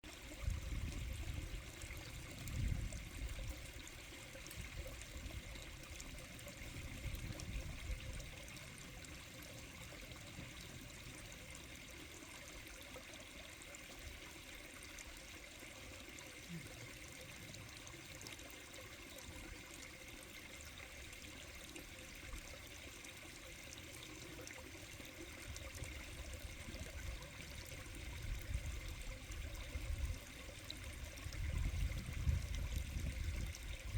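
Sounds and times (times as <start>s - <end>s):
water flowing over rocks: 0.0s - 33.9s.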